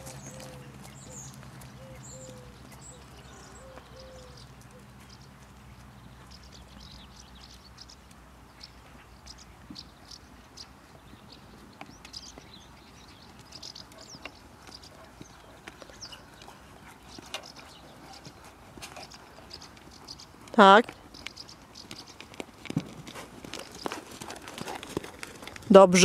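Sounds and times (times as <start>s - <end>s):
horse walking on sand: 0.0s - 7.6s, 10.8s - 26.0s.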